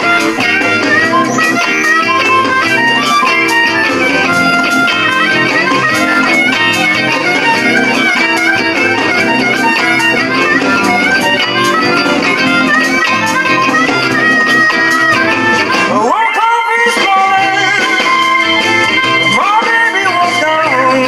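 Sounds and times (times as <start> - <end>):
electric guitar rhythm: 0.0 - 21.0
harmonica long notes: 0.0 - 21.0.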